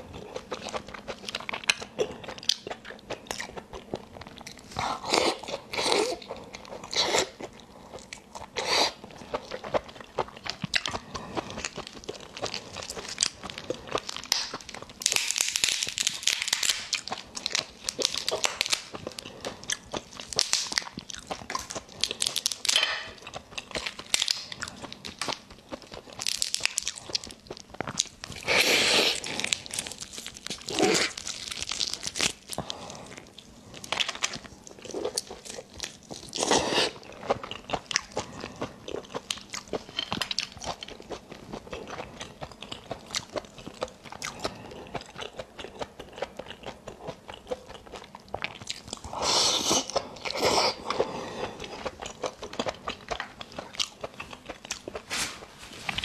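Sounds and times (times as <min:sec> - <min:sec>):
person chewing and biting: 0:00.0 - 0:55.1.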